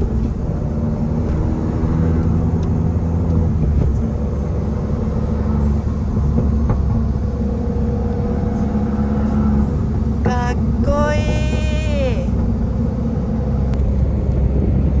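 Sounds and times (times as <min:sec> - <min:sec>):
car engine pulling: 0:00.0 - 0:15.0
road and tyre noise: 0:00.0 - 0:15.0.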